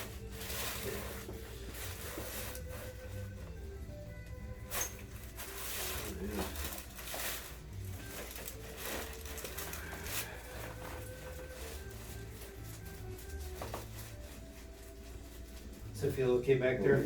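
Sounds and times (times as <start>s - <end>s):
faint background music: 0.0s - 17.0s
rustling: 0.0s - 17.0s.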